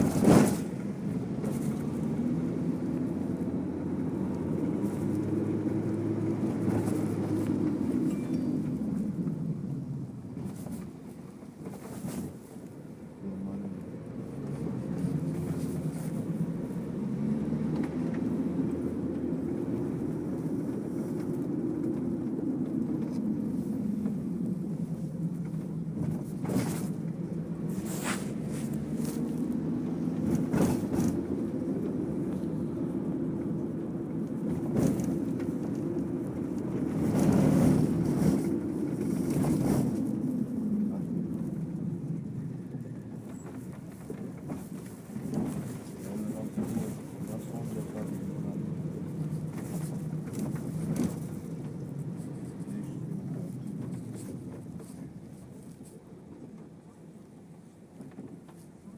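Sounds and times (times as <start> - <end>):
vehicle interior rumble: 0.0 - 58.9.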